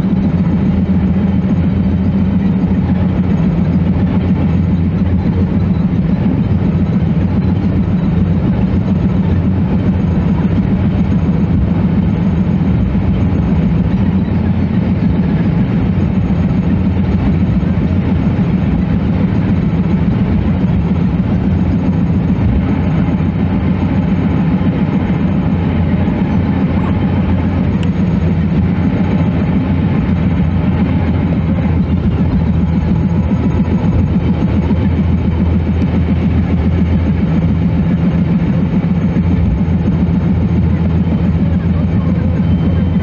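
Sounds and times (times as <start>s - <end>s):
vehicle road and engine drone: 0.0s - 43.0s.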